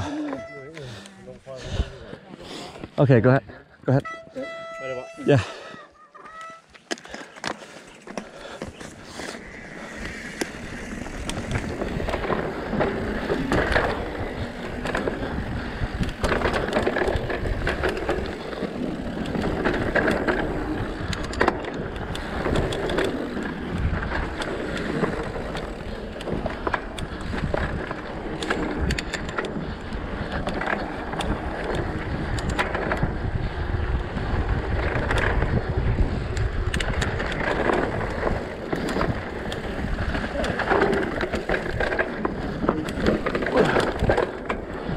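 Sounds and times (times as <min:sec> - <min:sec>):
bike rattling and clicking: 0:00.0 - 0:44.9
wind rumbling on microphone: 0:08.4 - 0:44.9.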